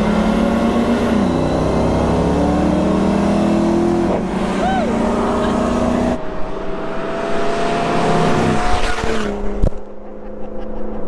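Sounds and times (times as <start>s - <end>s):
vehicle rushing past: 0.0s - 10.2s.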